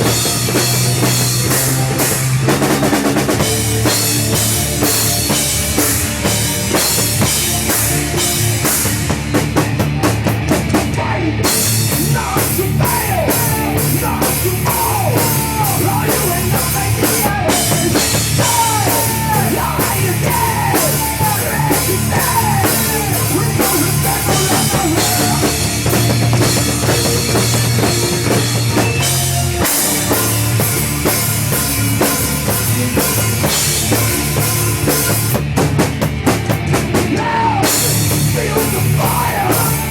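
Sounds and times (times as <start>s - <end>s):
rock music with drums: 0.0s - 39.9s.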